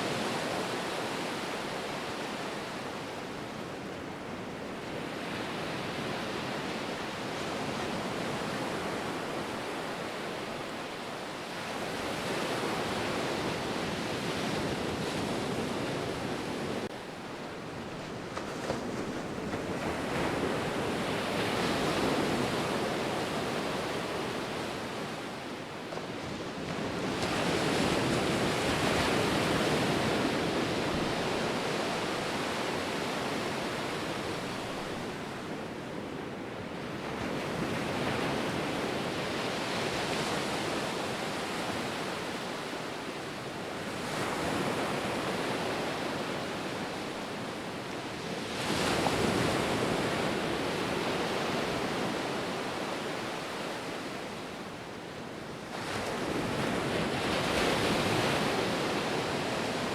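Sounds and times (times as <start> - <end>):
ocean surf washing ashore: 0.0 - 59.9.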